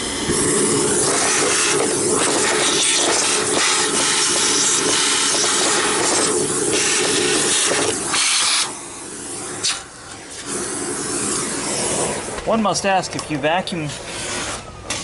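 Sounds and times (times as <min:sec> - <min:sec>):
vacuum cleaner sucking air: 0:00.0 - 0:12.8, 0:13.8 - 0:15.0.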